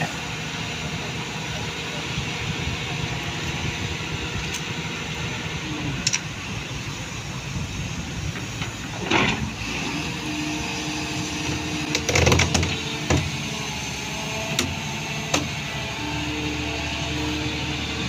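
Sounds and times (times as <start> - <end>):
excavator running: 0.0 - 18.0.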